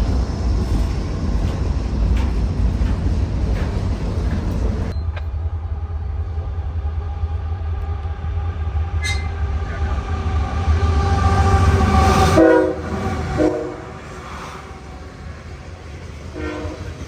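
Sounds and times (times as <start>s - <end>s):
freight train rumbling: 0.0s - 17.0s
steady engine hum: 0.0s - 17.0s.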